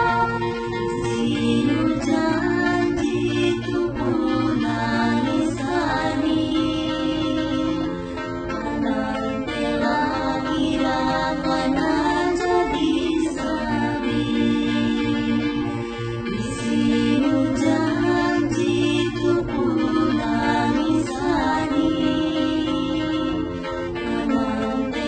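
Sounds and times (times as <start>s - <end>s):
music with voices singing: 0.0s - 25.0s.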